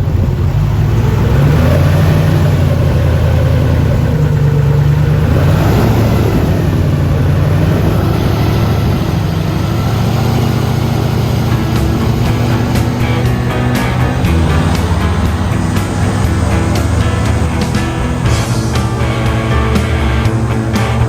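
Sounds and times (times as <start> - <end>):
airboat engine and propeller: 0.0 - 21.0.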